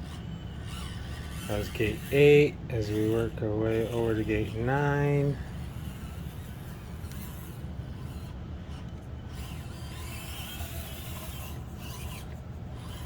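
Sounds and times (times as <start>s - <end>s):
small electric motor whirring: 0.0s - 13.0s.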